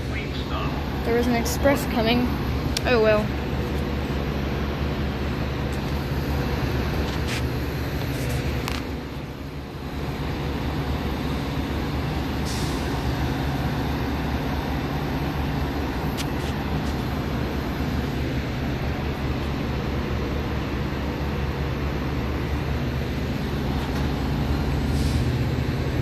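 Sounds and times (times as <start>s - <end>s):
diesel locomotive engine hum: 0.0s - 26.0s.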